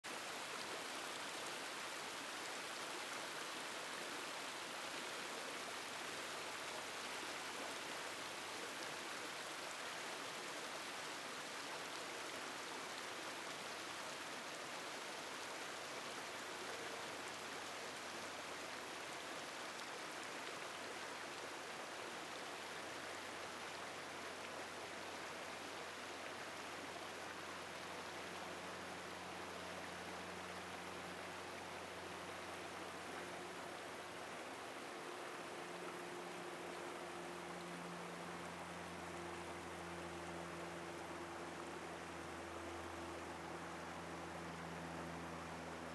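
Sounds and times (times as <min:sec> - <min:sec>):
stream rushing over rocks: 0:00.1 - 0:45.9.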